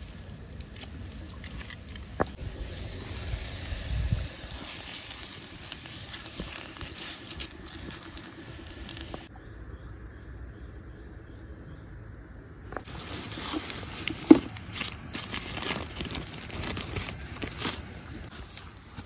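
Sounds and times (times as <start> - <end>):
wet vegetables rustling and dripping: 0.0 - 9.3, 12.8 - 19.0
quiet outdoor background: 0.0 - 19.0.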